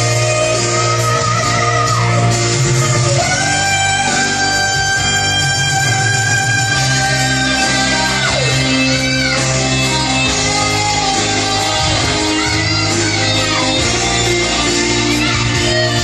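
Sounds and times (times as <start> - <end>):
rock ballad with guitar and band: 0.0 - 16.0.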